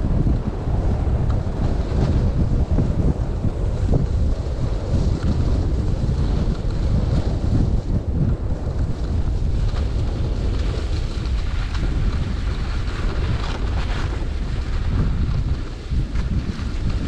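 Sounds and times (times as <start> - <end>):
skis sliding on packed snow: 0.0 - 17.0
wind buffeting microphone: 0.0 - 17.0.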